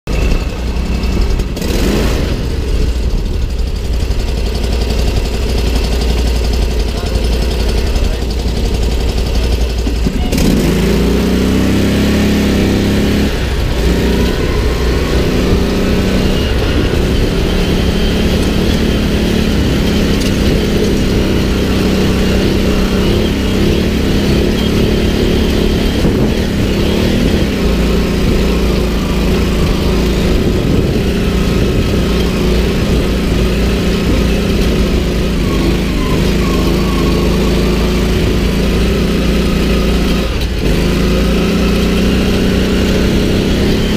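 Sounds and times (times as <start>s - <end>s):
buggy engine running: 0.0s - 43.9s.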